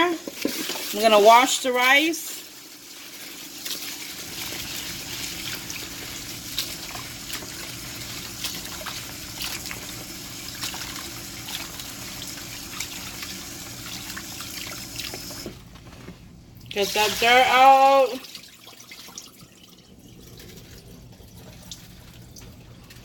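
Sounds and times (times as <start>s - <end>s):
tap water running and splashing: 0.0s - 15.6s, 16.6s - 23.0s.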